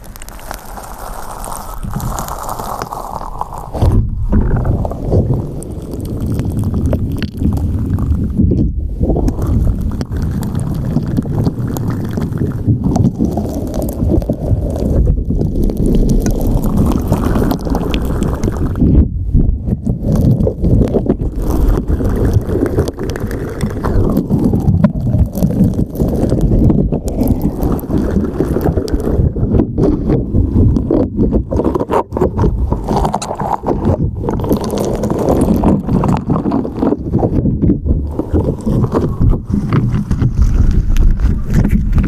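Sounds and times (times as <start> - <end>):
slime squelching: 0.0 - 42.0.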